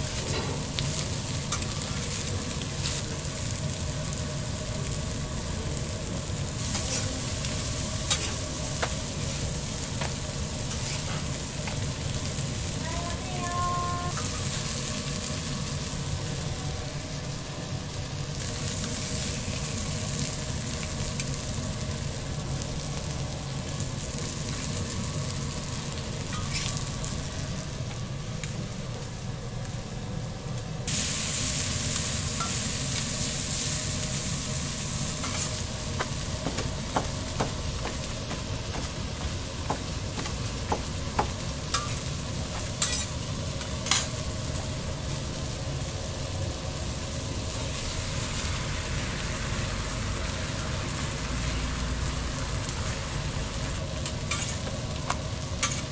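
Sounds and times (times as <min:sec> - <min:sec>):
food sizzling on a griddle: 0:00.0 - 0:55.9.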